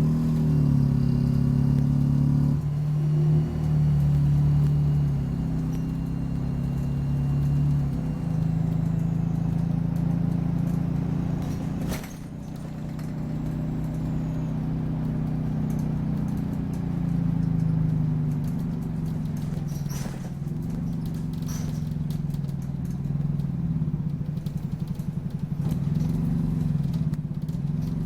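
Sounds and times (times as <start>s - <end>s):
bus engine pulling: 0.0s - 28.0s.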